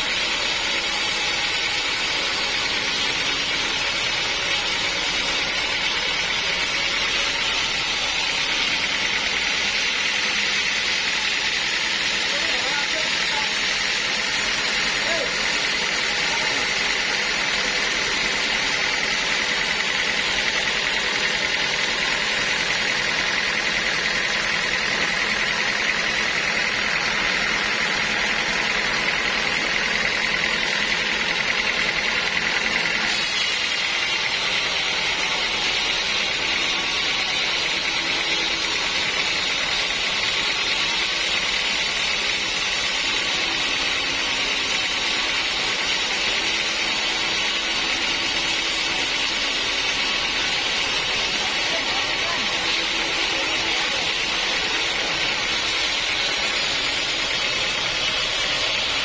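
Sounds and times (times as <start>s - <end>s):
sawmill machinery hum with whine: 0.0s - 59.0s.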